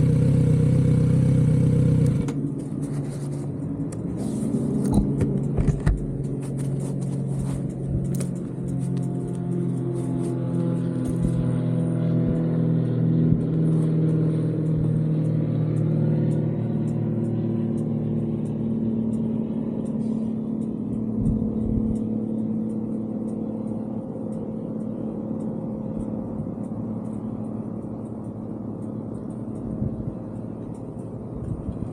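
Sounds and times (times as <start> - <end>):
motorcycle engine at low revs: 0.0 - 31.9
light ticking: 3.5 - 31.9.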